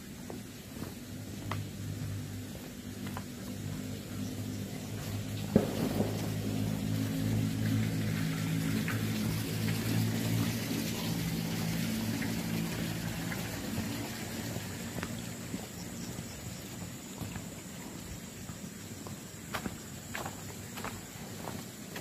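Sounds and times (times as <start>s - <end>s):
background hiss: 0.0s - 22.0s
low machine hum: 0.0s - 22.0s.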